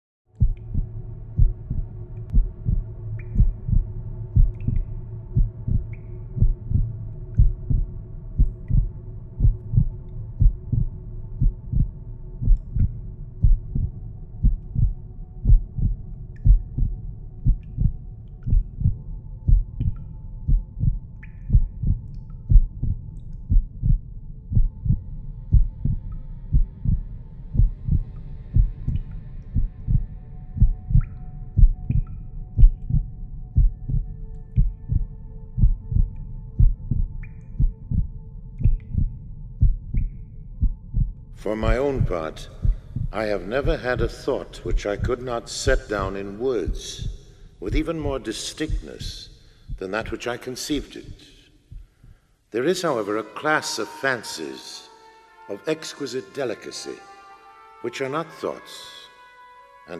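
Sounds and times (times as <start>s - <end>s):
heartbeat double thumps: 0.4s - 49.1s.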